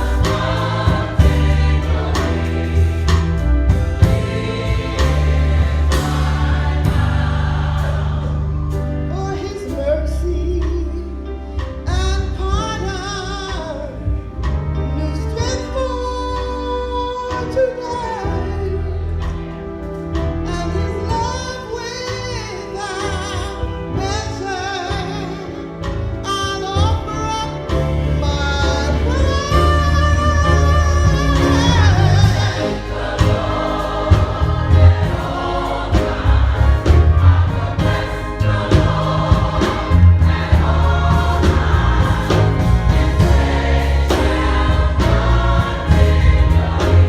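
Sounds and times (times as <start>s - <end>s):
gospel choir singing: 0.0s - 47.0s
instrumental accompaniment: 0.0s - 47.0s.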